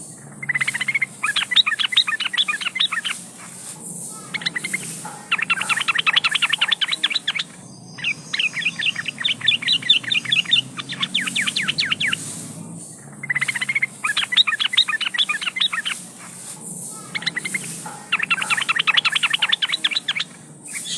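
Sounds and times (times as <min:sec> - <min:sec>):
bulbul chattering chirps: 0:00.0 - 0:20.9.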